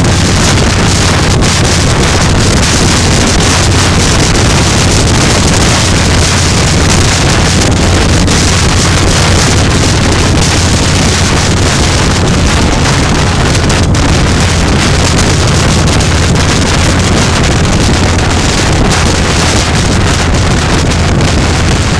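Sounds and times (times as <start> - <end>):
low engine drone: 0.0 - 21.9
wind noise on microphone: 0.0 - 21.9.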